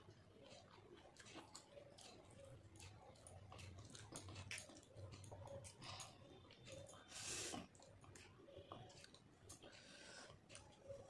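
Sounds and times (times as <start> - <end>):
chewing soft food: 0.0 - 11.0.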